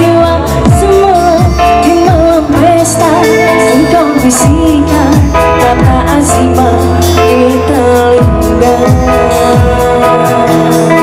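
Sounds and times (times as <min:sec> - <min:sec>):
band of keyboard and guitar: 0:00.0 - 0:11.0
woman singing into microphone: 0:00.0 - 0:11.0.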